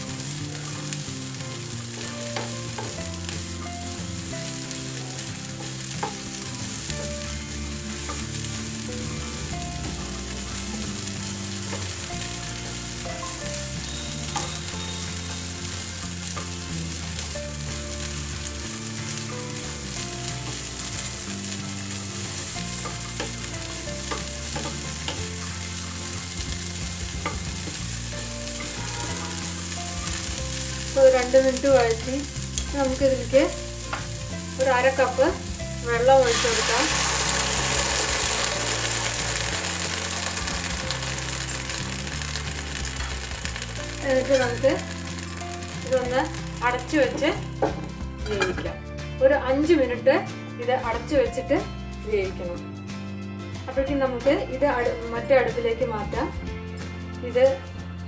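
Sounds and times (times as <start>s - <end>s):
vegetables sizzling in oil: 0.0s - 53.0s.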